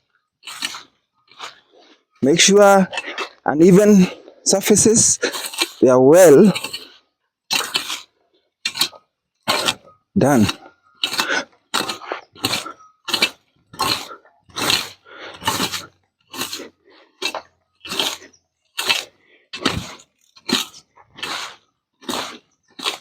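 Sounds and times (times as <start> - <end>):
rake scraping ground: 0.4 - 23.0.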